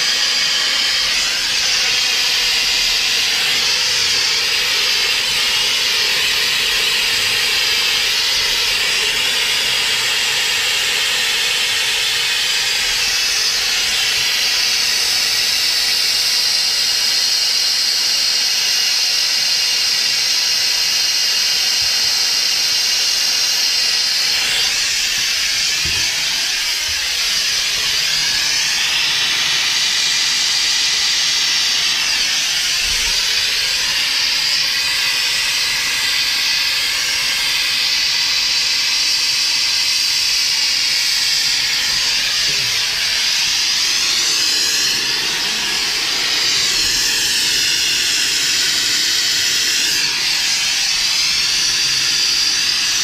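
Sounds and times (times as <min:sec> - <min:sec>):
gas torch flame hissing: 0:00.0 - 0:53.0.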